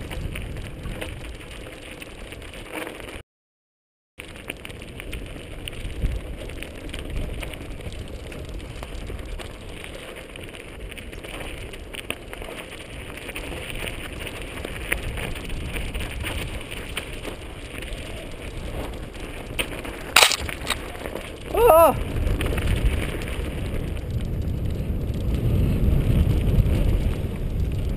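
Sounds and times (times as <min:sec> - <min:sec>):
bike rattling over bumps: 0:00.0 - 0:03.2, 0:04.2 - 0:27.9
bike tyres crackling over gravel: 0:00.0 - 0:03.2, 0:04.2 - 0:27.9.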